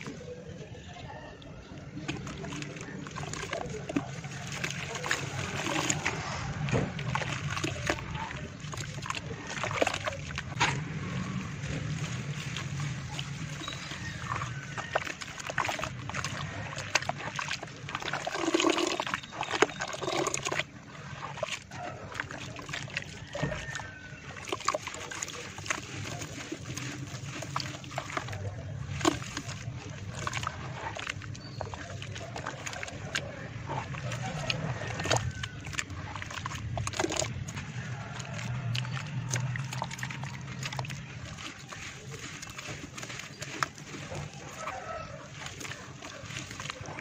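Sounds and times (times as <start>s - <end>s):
hands squelching wet mud: 0.0s - 47.0s
small water splashes: 0.0s - 47.0s.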